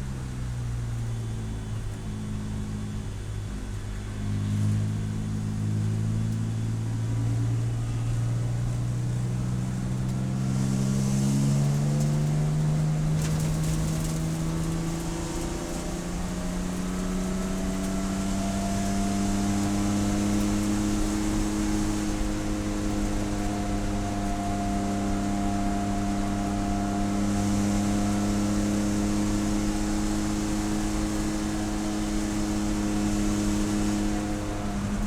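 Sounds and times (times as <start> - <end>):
race car engine: 0.0 - 35.0.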